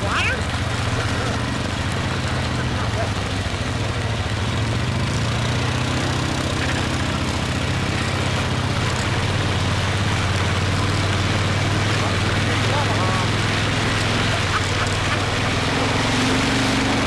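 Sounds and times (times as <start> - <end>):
quad engine running: 0.0 - 17.0.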